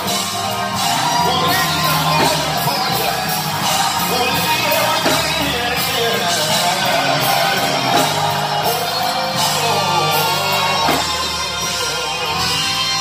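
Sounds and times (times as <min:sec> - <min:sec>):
live gospel band: 0:00.0 - 0:13.0.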